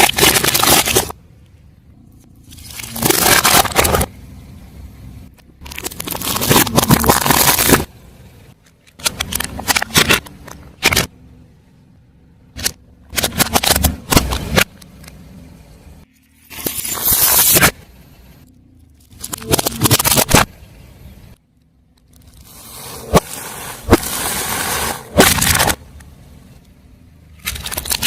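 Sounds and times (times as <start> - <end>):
car tyre crushing objects: 0.0 - 11.5, 12.2 - 28.0.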